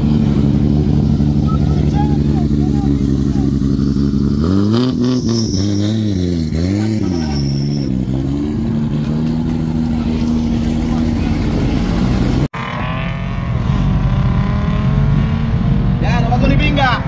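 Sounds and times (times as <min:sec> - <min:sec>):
supercharged car engine revving: 0:00.0 - 0:17.0.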